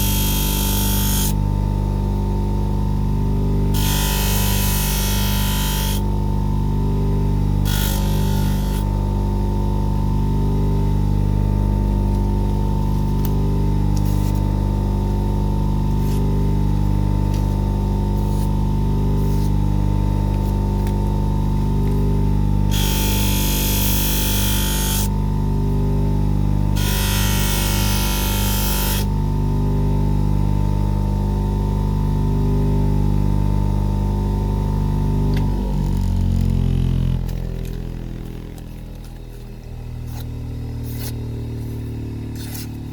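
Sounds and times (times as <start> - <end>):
electric motor humming: 0.0 - 1.6, 3.0 - 9.7, 10.5 - 30.0, 34.5 - 42.9.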